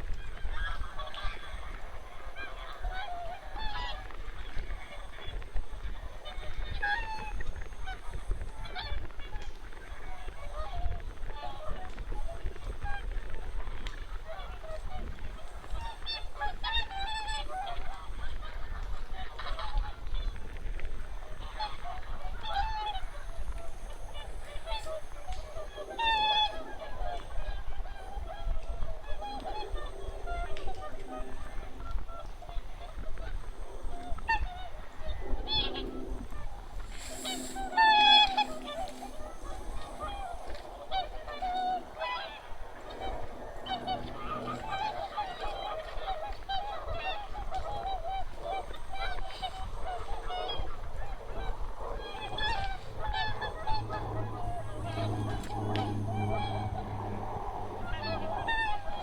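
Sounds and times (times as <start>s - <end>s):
geese honking: 0.2s - 11.9s, 13.6s - 59.0s.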